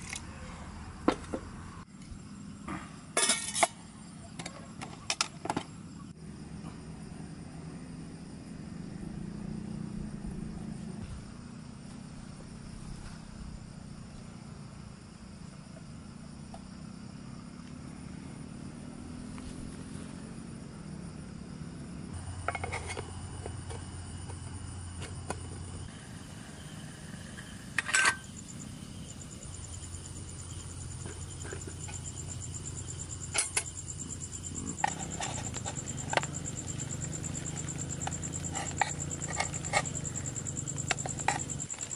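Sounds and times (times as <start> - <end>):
high insect tone: 0.0 - 41.9
insects and frogs at night: 0.0 - 41.9.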